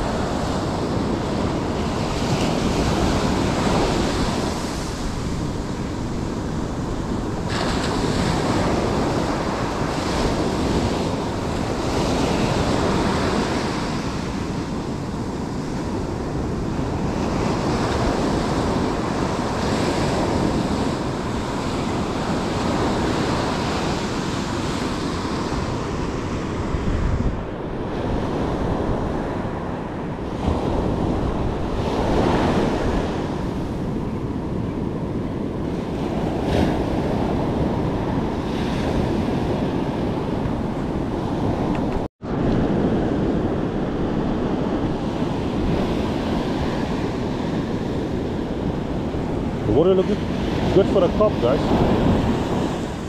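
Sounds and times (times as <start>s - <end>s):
surf breaking on a beach: 0.0s - 53.0s
wind noise on microphone: 0.0s - 53.0s.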